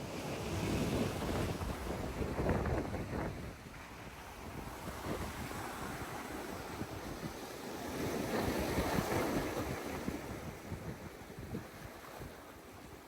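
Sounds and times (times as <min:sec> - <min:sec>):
wind buffeting microphone: 0:00.3 - 0:12.9.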